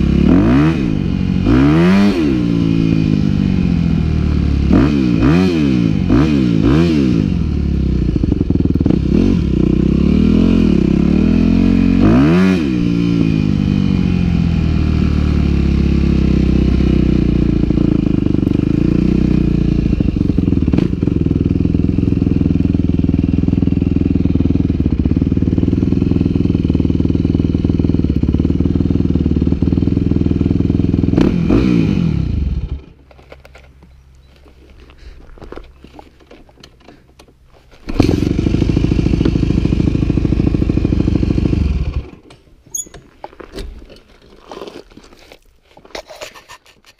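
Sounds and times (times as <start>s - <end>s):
motorcycle engine revving: 0.0s - 33.1s, 37.7s - 42.9s.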